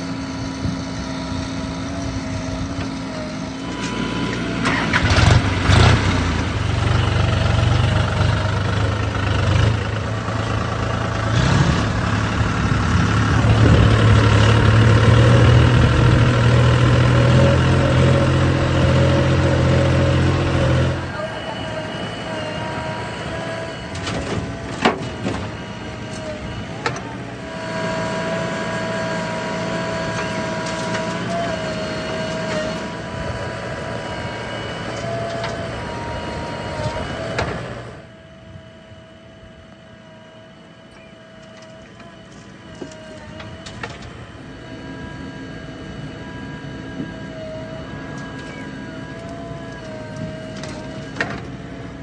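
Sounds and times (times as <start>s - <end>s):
diesel engines running: 0.0s - 52.0s
high hydraulic whine: 0.0s - 52.0s.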